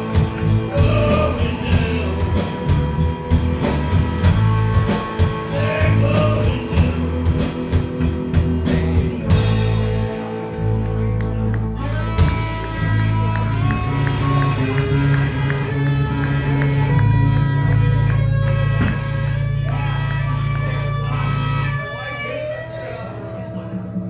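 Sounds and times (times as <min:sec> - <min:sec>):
steady drum beat: 0:00.0 - 0:21.9
electric guitar: 0:00.0 - 0:24.0
sustained bass notes: 0:00.0 - 0:24.0.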